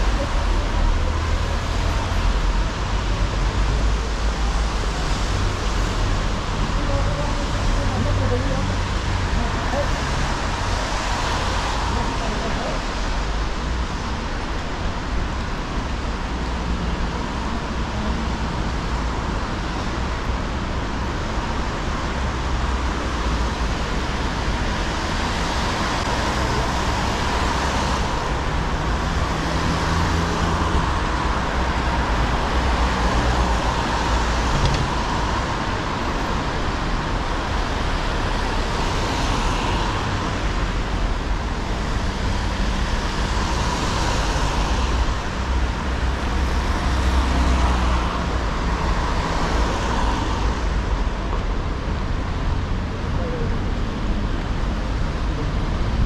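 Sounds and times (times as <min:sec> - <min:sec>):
road traffic on wet streets: 0:00.0 - 0:56.0.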